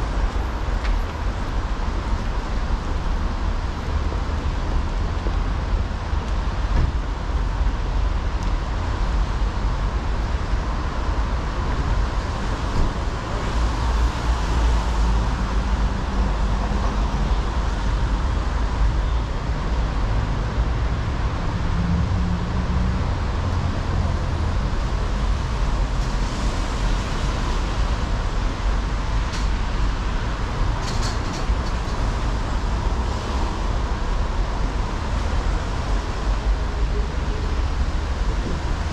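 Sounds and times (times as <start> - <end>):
road traffic noise: 0.0 - 38.9.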